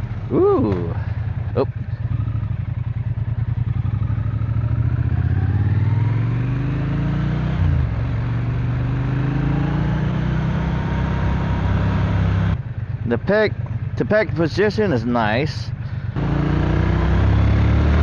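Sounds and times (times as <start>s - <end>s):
motorcycle engine accelerating: 0.0s - 14.7s, 15.8s - 18.0s.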